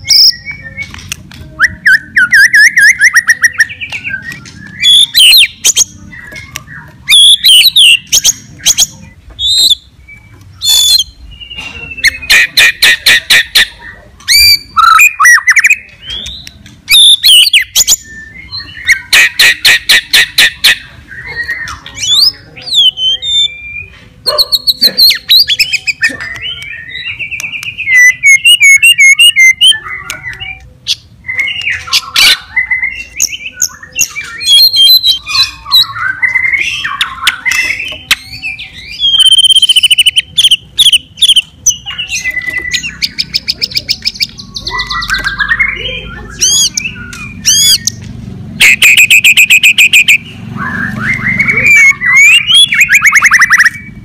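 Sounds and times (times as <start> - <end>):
bird singing varied song: 0.0 - 54.0.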